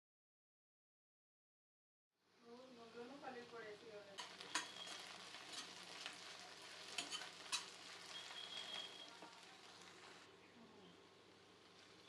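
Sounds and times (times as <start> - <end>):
food sizzling in oil: 2.3 - 12.0.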